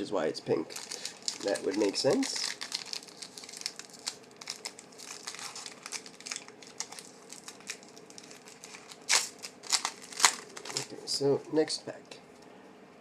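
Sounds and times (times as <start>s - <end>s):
plastic packaging crinkling: 0.7s - 11.2s.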